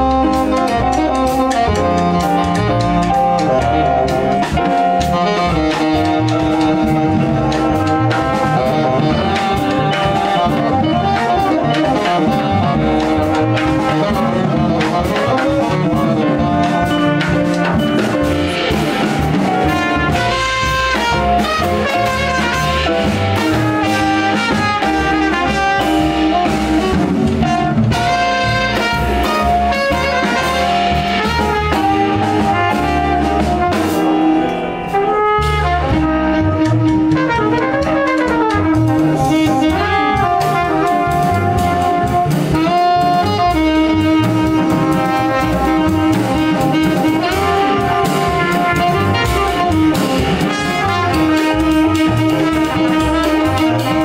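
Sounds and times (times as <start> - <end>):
double bass: 0.0 - 54.0
drums: 0.0 - 54.0
piano: 0.0 - 54.0
tenor saxophone: 0.0 - 54.0
trumpet: 0.0 - 54.0.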